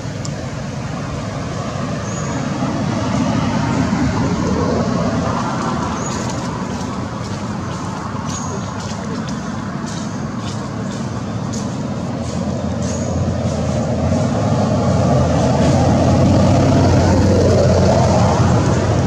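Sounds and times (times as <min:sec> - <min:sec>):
road traffic noise: 0:00.0 - 0:19.0
vehicle passing: 0:00.0 - 0:19.0.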